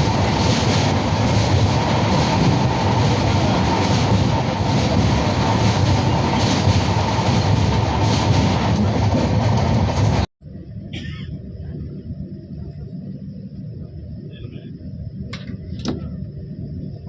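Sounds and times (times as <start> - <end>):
train coach rumbling on rails: 0.0 - 17.0.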